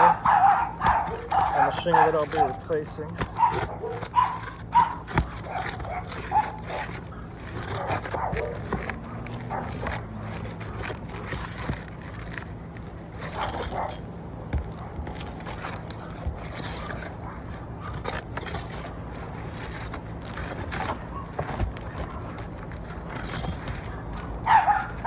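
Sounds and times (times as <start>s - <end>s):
scraping on roof shingles: 0.0s - 25.0s
steady low hum: 0.0s - 25.0s.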